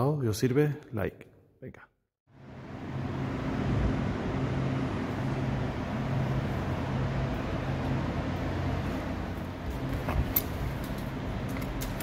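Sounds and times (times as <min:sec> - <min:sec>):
low hum: 0:02.3 - 0:12.0.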